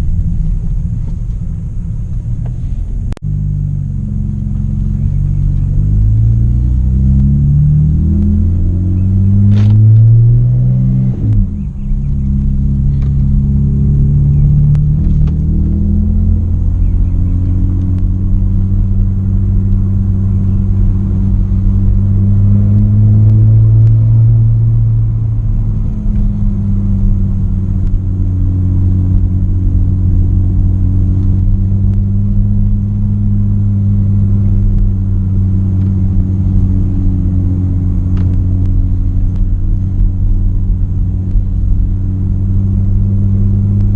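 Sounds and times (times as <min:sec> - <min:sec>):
loud car exhaust: 0:00.0 - 0:43.9.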